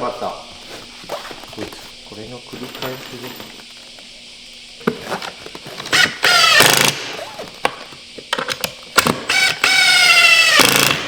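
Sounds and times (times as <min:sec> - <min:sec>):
power screwdriver whining: 0:00.0 - 0:11.0.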